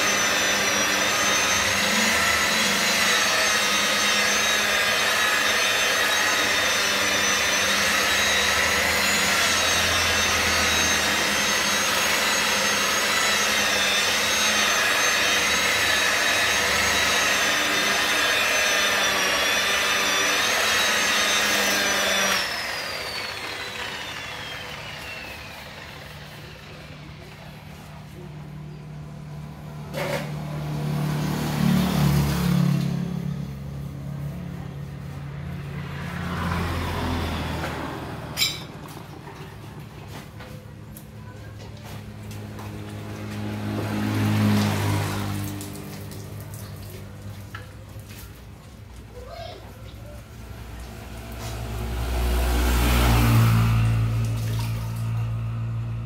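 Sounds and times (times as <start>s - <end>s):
rotary polisher whine: 0.0s - 48.7s, 50.0s - 56.0s.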